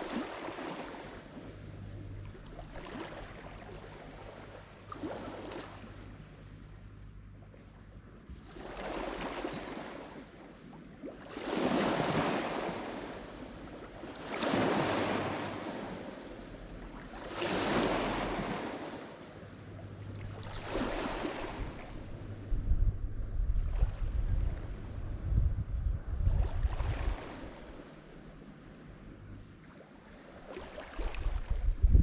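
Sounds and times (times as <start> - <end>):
waves breaking on shore: 0.0 - 6.4, 8.4 - 22.6, 23.5 - 25.2, 26.2 - 32.0.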